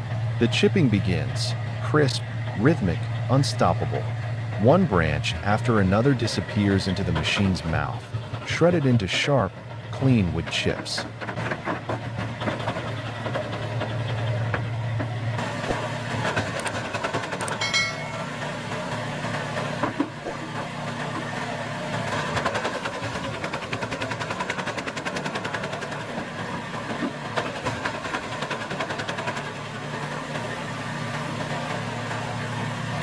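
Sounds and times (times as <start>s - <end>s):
wood chipper engine running: 0.0s - 33.0s.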